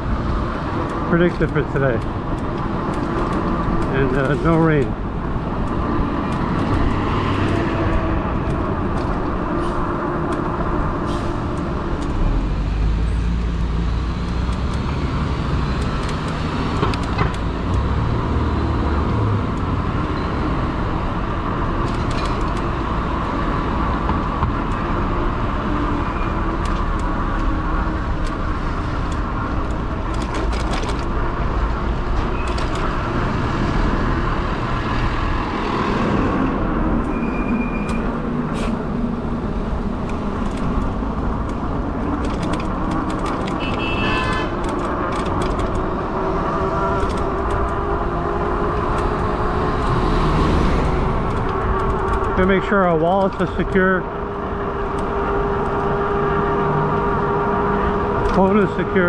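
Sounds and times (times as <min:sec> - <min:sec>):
road and traffic noise: 0:00.0 - 0:59.0.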